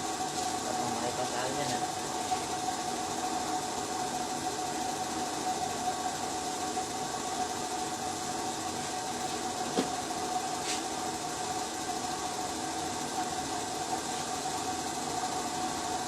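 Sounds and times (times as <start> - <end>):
engine running with whine: 0.0 - 16.0.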